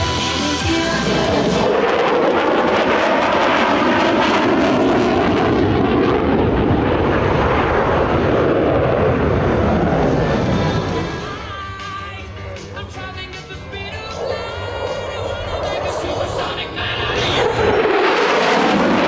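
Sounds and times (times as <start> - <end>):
fighter jet flying past: 1.0 - 11.6, 13.9 - 19.0.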